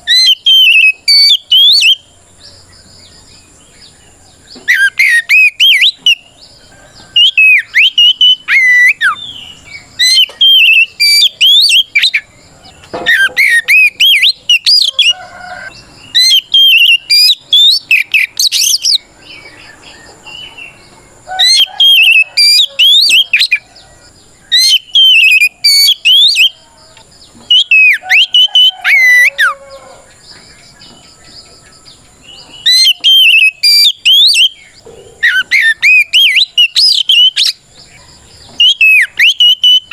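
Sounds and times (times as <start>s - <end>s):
bird singing sweet whistles: 0.0s - 2.1s, 4.5s - 23.9s, 24.5s - 26.8s, 27.4s - 29.6s, 32.3s - 39.9s.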